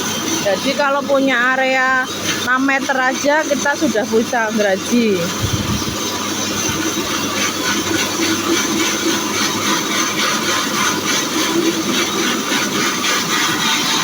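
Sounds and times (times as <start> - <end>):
band saw cutting log: 0.0 - 14.0
electric motor hum: 0.0 - 14.0.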